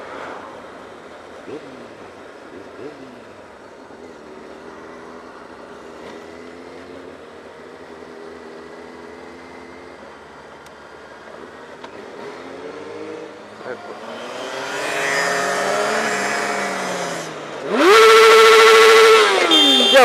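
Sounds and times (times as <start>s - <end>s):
wind and road rush: 0.0s - 20.0s.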